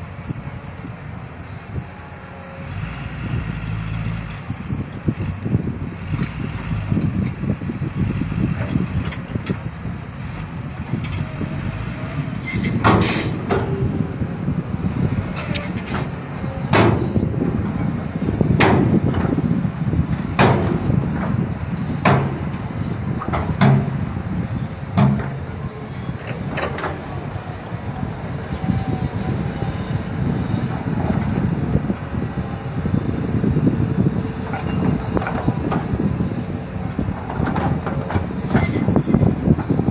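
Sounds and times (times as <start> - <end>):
diesel machinery rumbling: 0.0 - 39.9.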